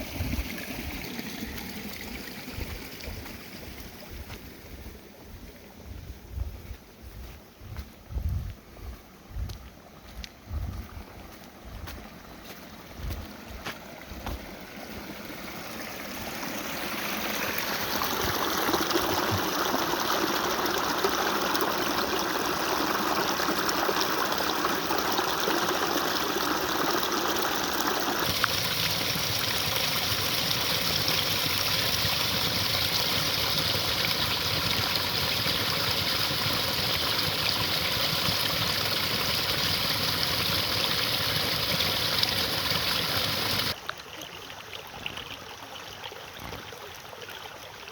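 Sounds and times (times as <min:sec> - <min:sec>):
stream water rushing: 0:00.0 - 0:05.9, 0:09.7 - 0:47.9.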